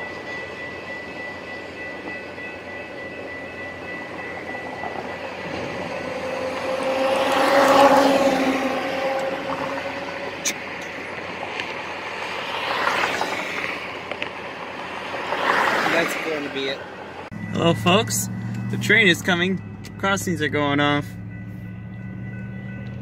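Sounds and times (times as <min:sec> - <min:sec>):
steady traffic hum: 0:00.0 - 0:23.0
vehicles passing: 0:00.0 - 0:23.0.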